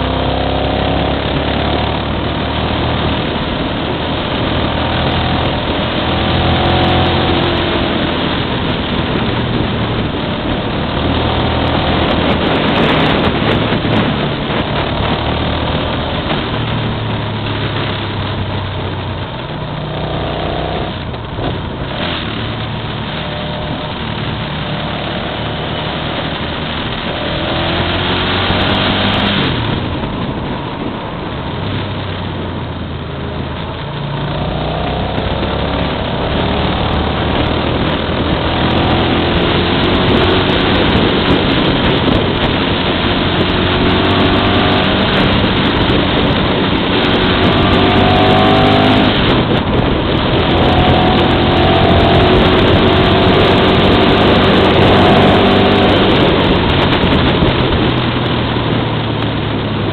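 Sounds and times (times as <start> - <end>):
motorcycle engine revving: 0.0 - 59.9
wind rushing on microphone: 0.0 - 59.9.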